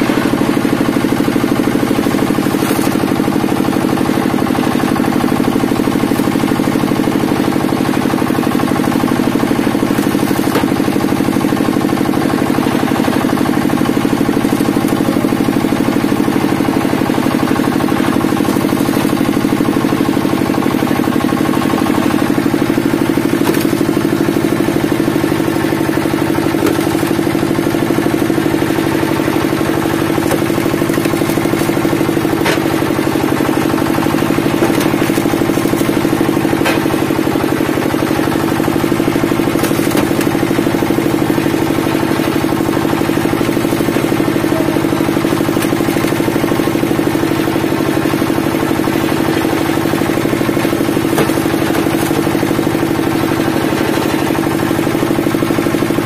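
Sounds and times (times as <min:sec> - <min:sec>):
wood splitter power unit drone: 0:00.0 - 0:56.0
wood splitting cracks: 0:00.3 - 0:56.0.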